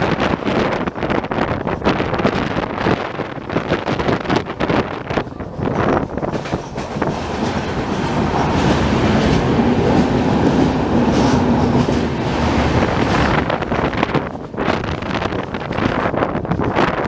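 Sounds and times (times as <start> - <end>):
train wheels clattering: 0.0 - 17.0
wind buffeting microphone: 0.0 - 17.0.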